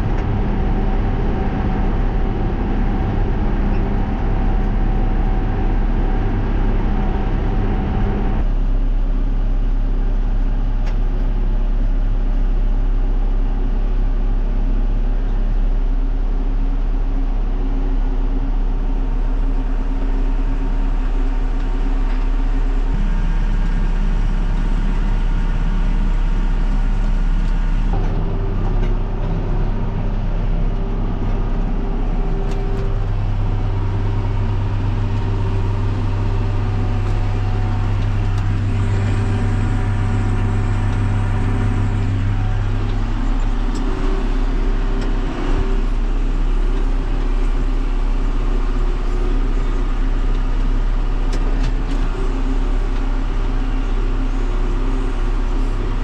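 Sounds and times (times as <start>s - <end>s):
tractor engine under load: 0.0s - 11.8s, 17.6s - 56.0s.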